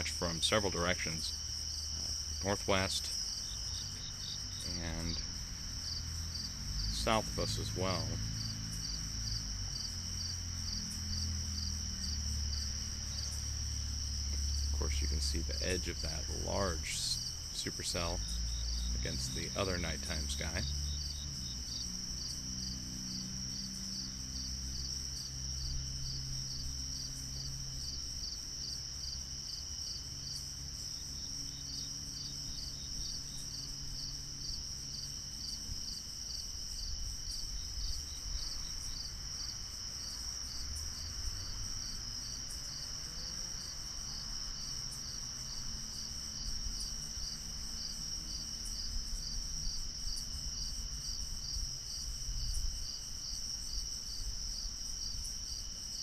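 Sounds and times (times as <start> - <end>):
low outdoor rumble: 0.0 - 52.8
insects chirping: 0.0 - 56.0.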